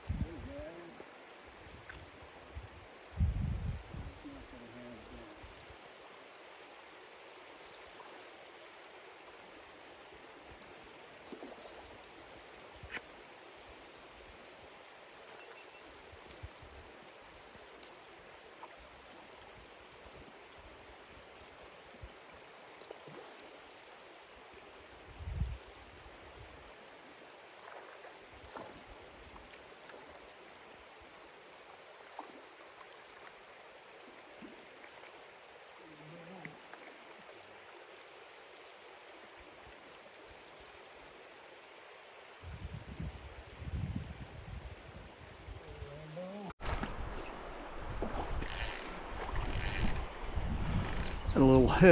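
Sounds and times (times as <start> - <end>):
stream water rushing: 0.0 - 3.2, 3.9 - 42.4.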